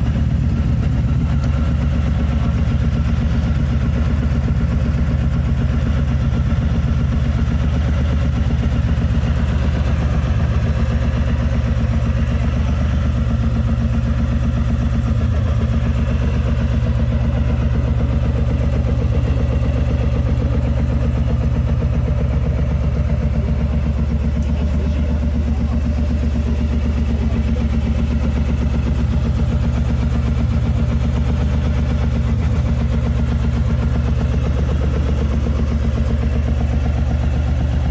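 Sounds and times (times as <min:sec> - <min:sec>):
motorcycle engine idling: 0:00.0 - 0:37.9.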